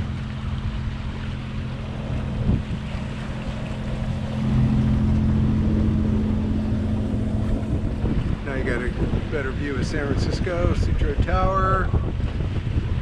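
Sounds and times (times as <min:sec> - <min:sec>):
boat engine running: 0:00.0 - 0:13.0
water rushing past hull: 0:00.0 - 0:13.0
wind: 0:00.0 - 0:13.0.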